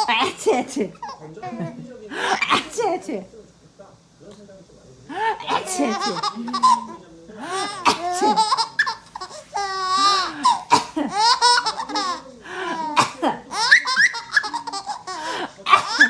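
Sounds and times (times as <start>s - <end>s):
baby giggling: 0.0s - 2.9s, 5.1s - 16.0s.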